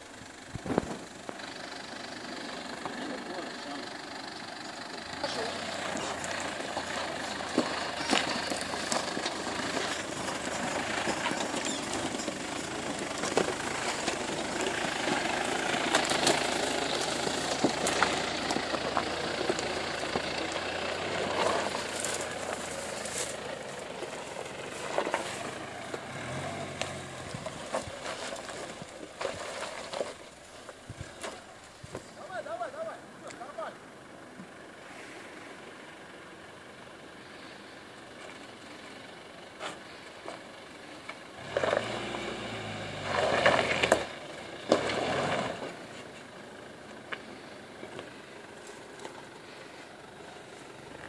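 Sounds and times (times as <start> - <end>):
off-road vehicle engine running: 0.0 - 51.0.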